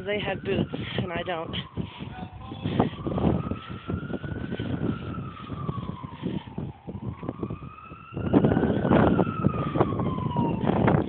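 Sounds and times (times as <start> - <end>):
emergency vehicle siren wailing: 0.0 - 11.0
wind noise on microphone: 0.0 - 11.0.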